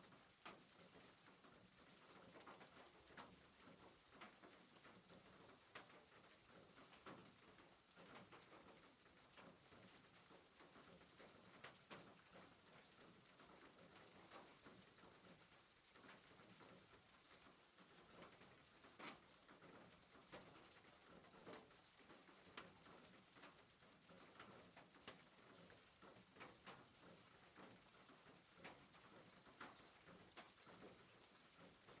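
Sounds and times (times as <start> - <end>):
faint irregular clicks and taps: 0.0 - 32.0.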